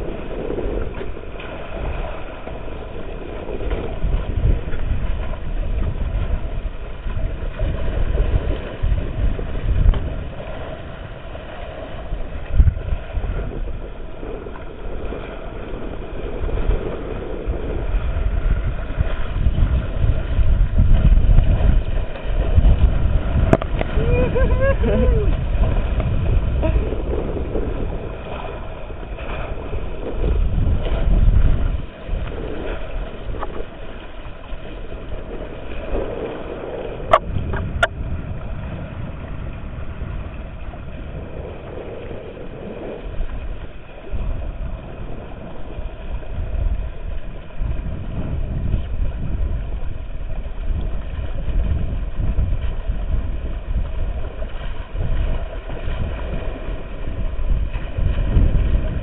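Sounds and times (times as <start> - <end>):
boat engine hum: 0.0 - 59.0
wind and water noise: 0.0 - 59.0.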